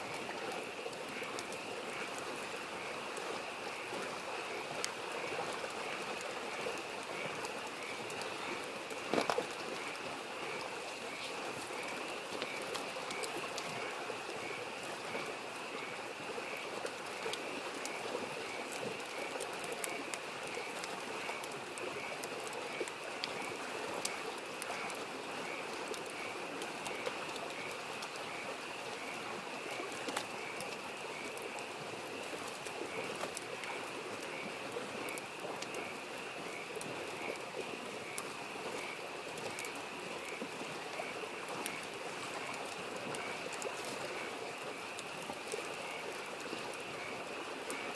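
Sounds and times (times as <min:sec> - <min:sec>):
wood fire crackling and popping: 0:00.0 - 0:15.2, 0:15.8 - 0:28.4, 0:29.0 - 0:47.0
babbling stream: 0:00.0 - 0:47.9
frogs calling: 0:00.0 - 0:47.9.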